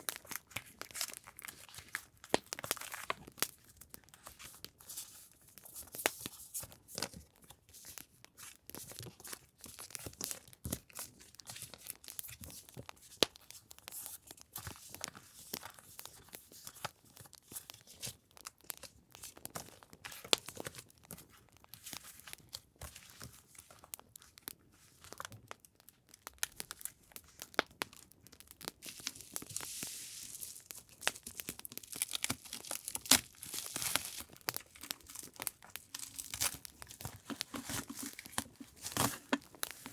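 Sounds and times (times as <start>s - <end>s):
paper and packaging crinkling: 0.0s - 39.9s.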